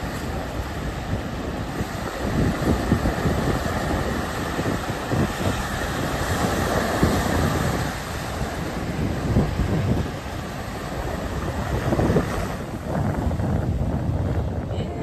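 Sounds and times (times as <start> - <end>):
surf breaking on rocks: 0.0 - 14.0
wind buffeting microphone: 0.0 - 15.0.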